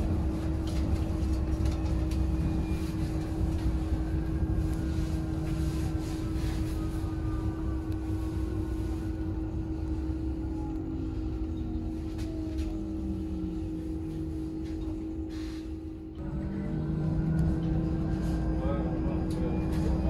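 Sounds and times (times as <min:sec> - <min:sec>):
constant hum: 0:00.0 - 0:20.0
road rumble: 0:00.0 - 0:20.0.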